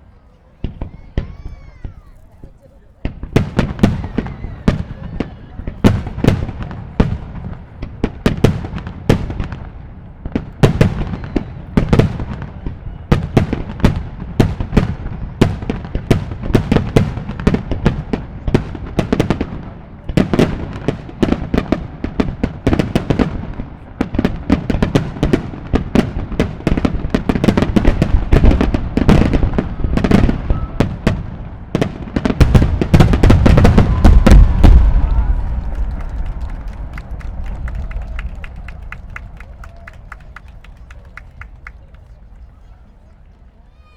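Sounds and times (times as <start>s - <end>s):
fireworks bursting with bangs: 0.1s - 42.3s.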